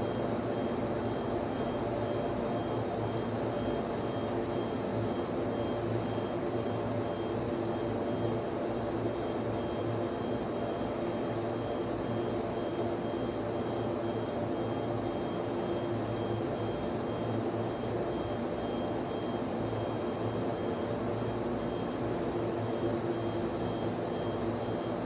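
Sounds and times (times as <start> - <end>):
cooling fans whirring: 0.0 - 25.0.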